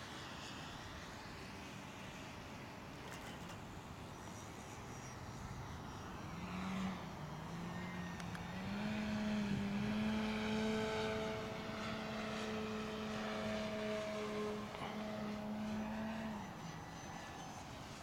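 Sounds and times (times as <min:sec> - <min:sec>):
model plane engine and propeller: 0:00.0 - 0:18.0.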